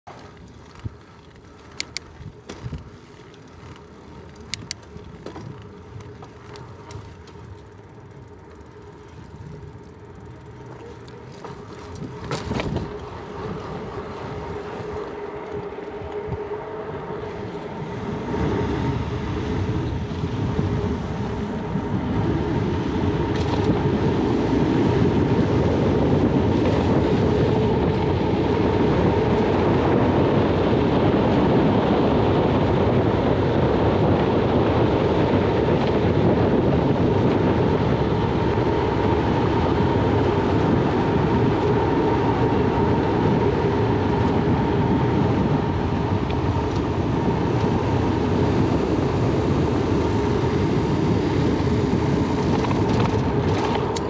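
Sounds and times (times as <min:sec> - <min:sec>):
bicycle tyre noise: 0:00.0 - 0:54.0
wind noise: 0:00.0 - 0:54.0.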